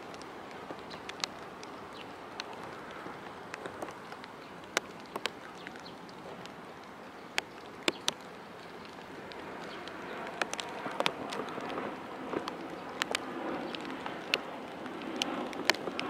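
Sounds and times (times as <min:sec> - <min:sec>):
light rain hiss: 0:00.0 - 0:16.0
raindrops tapping: 0:00.0 - 0:16.0.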